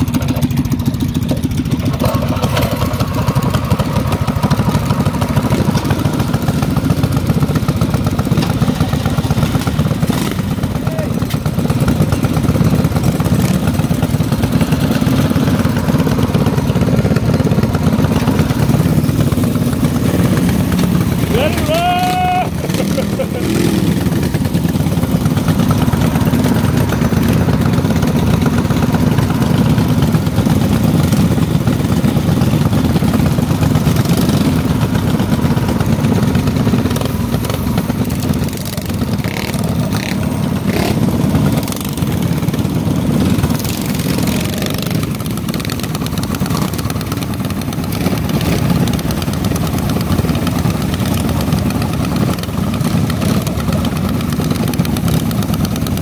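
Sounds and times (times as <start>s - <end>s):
minibike engine running: 0.0s - 56.0s.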